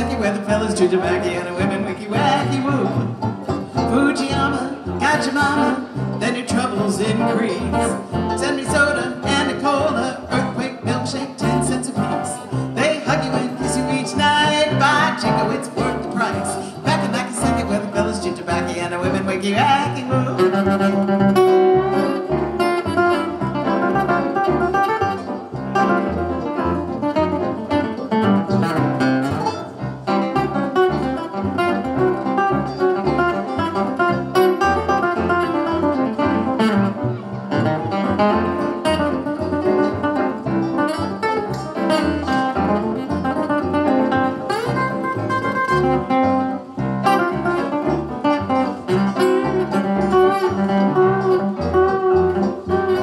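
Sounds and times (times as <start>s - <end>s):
bluegrass band playing: 0.0s - 53.0s
piano: 0.0s - 53.0s.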